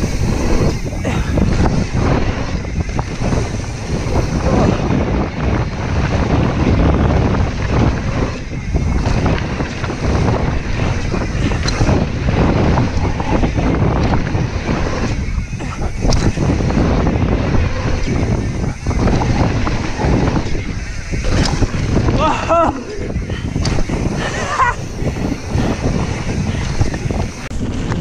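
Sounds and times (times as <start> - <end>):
bike rattling over bumps: 0.0 - 28.0
wind buffeting microphone: 0.0 - 28.0.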